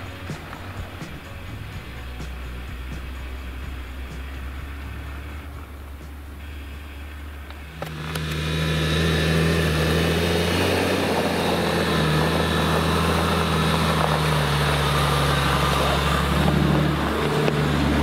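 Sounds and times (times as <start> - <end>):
diesel engine running at low revs: 0.0 - 18.0.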